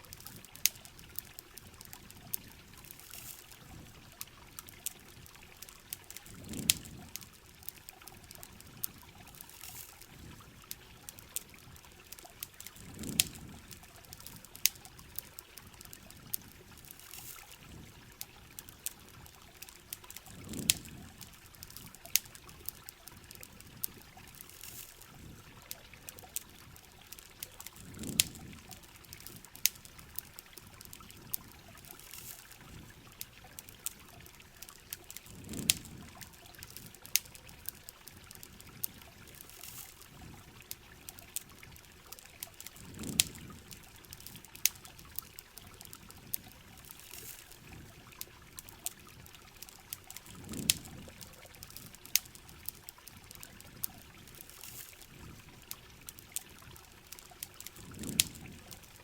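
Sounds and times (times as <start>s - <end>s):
rain hissing: 0.0s - 56.3s, 57.4s - 59.0s
campfire crackling: 0.0s - 59.0s
water trickling: 0.0s - 59.0s.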